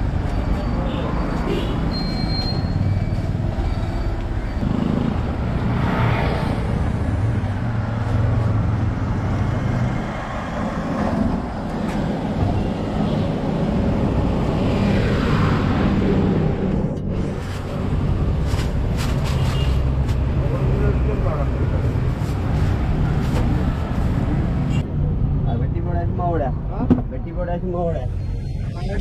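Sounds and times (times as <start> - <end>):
traffic engines rumbling: 0.0 - 29.0
vehicles passing: 0.0 - 29.0.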